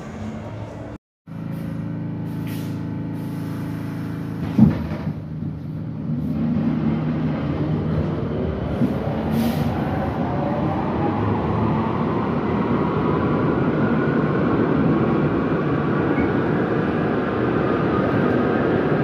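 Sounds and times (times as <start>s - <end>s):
train hum rising to whine: 0.0s - 19.0s.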